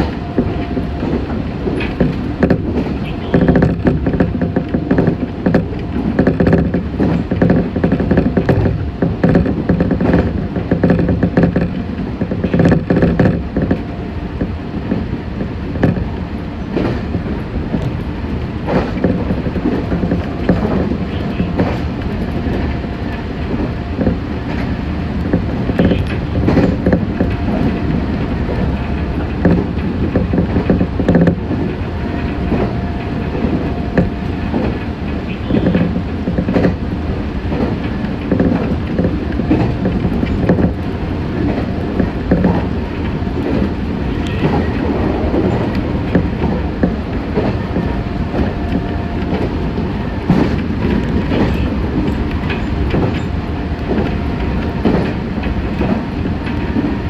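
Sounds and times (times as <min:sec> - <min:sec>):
train wheels rumbling: 0:00.0 - 0:57.0
wheels clicking over rail joints: 0:00.0 - 0:57.0.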